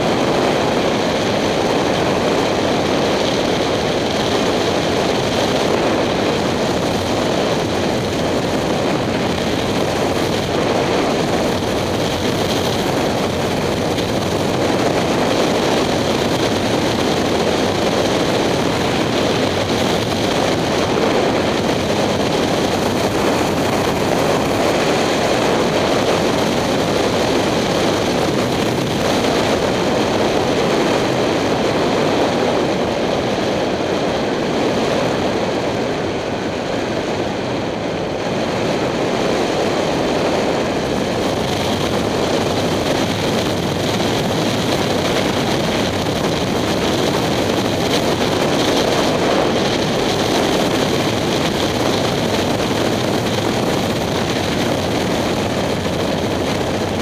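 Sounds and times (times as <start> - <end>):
wind rushing over camera: 0.0 - 57.0.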